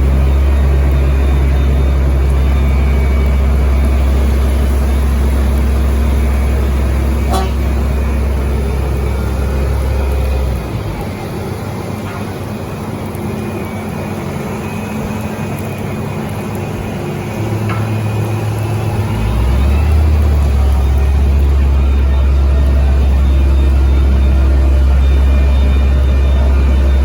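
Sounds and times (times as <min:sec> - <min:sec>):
heavy diesel engines running: 0:00.0 - 0:27.0
low engine rumble: 0:00.0 - 0:27.0.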